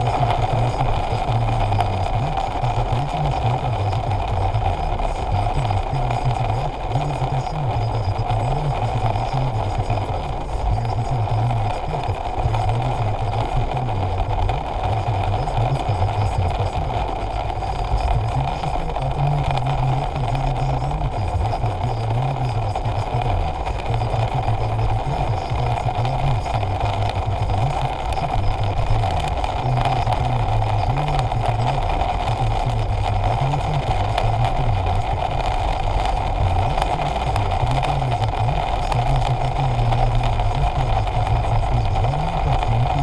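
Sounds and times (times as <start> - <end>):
vehicle running with low drone: 0.0 - 43.0.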